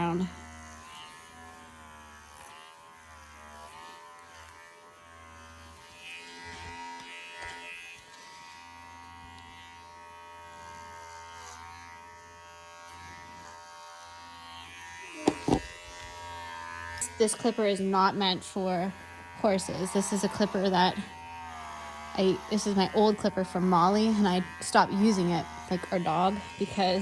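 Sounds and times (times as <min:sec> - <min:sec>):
electric clipper buzzing: 0:00.0 - 0:27.0.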